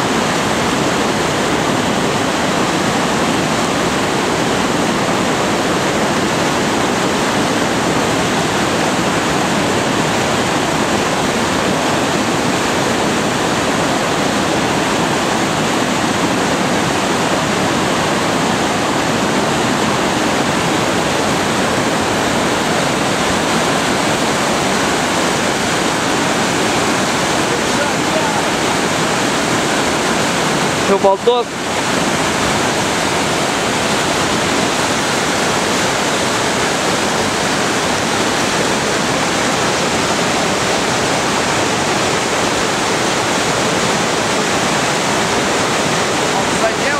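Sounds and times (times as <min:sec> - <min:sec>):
whitewater rushing through channel: 0:00.0 - 0:46.9.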